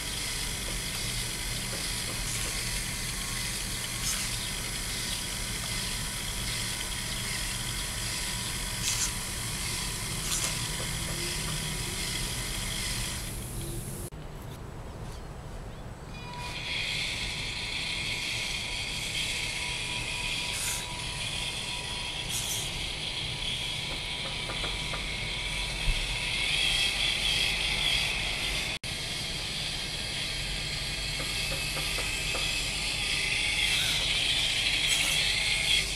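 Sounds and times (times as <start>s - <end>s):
electric motors whirring high-pitched: 0.0s - 14.1s, 16.1s - 35.9s.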